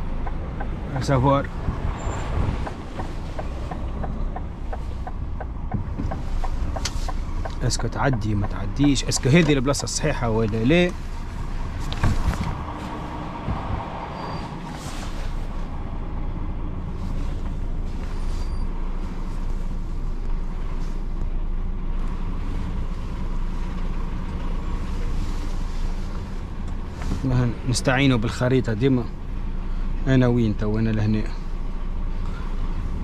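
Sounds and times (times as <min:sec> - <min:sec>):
diesel engine running at low revs: 0:00.0 - 0:33.0.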